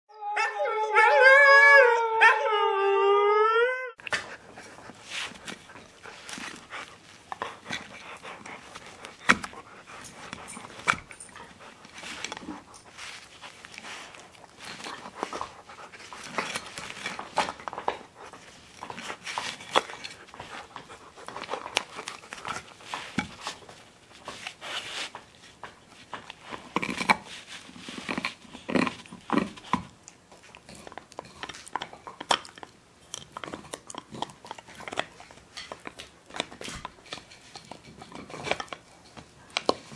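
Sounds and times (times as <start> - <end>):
dogs gnawing on antlers: 4.0 - 39.9.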